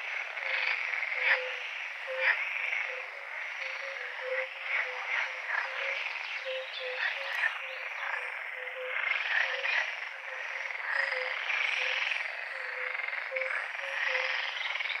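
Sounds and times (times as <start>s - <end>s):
chorus of frogs croaking: 0.0s - 15.0s.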